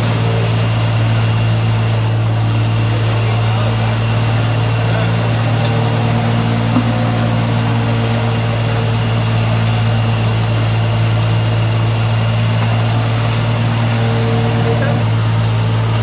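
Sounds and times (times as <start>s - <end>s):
machine motors humming: 0.0s - 16.0s.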